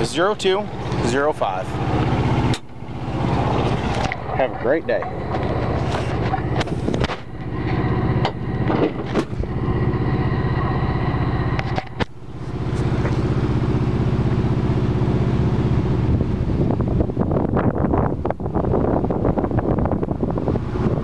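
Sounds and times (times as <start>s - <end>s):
diesel engine idling: 0.0s - 17.2s.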